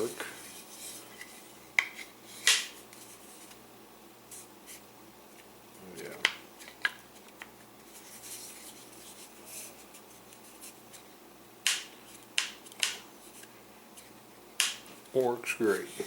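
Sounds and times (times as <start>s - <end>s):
rubbing and handling: 0.0s - 3.6s, 4.3s - 11.2s, 12.0s - 16.0s.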